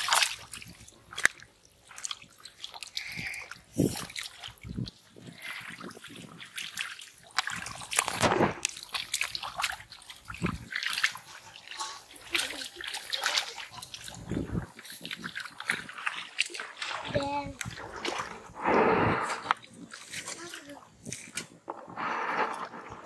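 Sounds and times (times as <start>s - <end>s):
hands squelching in mud: 0.0s - 23.0s.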